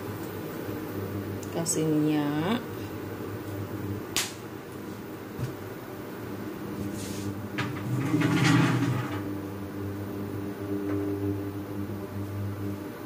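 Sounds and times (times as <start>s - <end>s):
induction cooktop humming: 0.0s - 13.0s.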